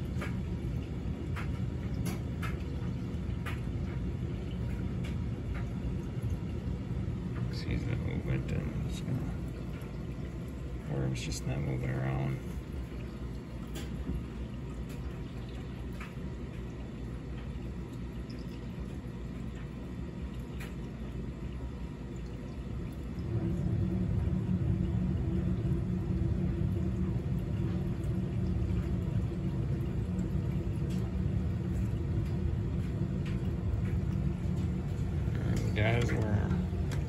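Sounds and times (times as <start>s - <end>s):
mechanical hum and rumble: 0.0s - 37.0s.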